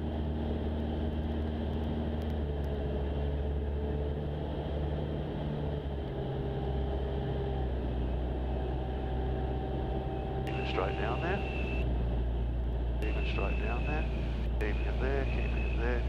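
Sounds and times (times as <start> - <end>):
light aircraft engine and propeller: 0.0 - 16.0.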